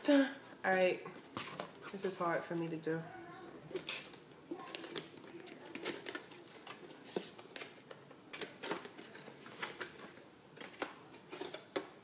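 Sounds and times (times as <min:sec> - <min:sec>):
cardboard and plastic packaging rustling: 0:00.7 - 0:12.0.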